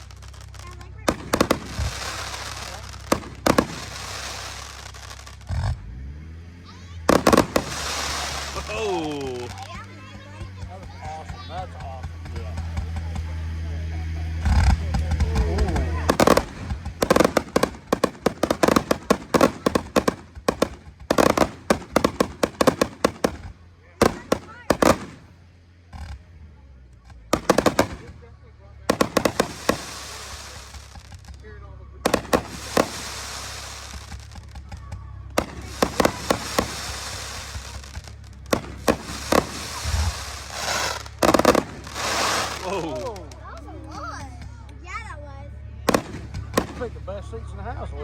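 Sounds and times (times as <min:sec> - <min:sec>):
fireworks bangs and crackling: 0:00.0 - 0:06.0, 0:07.0 - 0:26.3, 0:26.9 - 0:44.6, 0:45.8 - 0:47.5.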